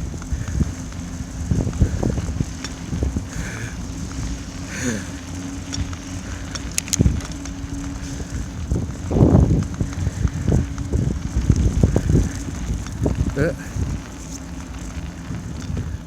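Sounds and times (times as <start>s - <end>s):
bicycle riding through snow: 0.0s - 16.0s
steady low hum: 0.0s - 16.0s
wind on microphone: 0.0s - 16.0s.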